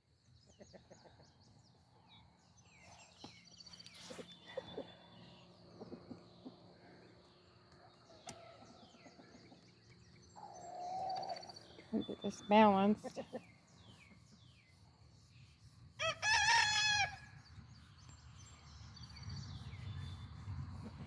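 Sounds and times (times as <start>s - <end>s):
small birds chirping: 0.2s - 16.0s, 17.2s - 21.0s.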